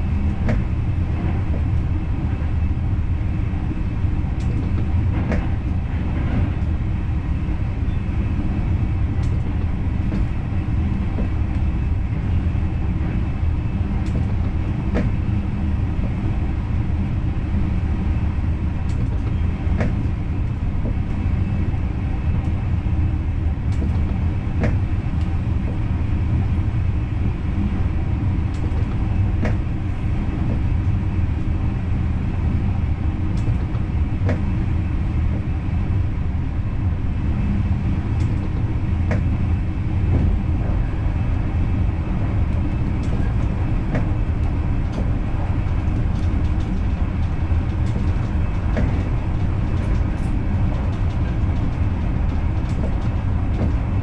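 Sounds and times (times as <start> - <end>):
train running at speed: 0.0 - 54.0.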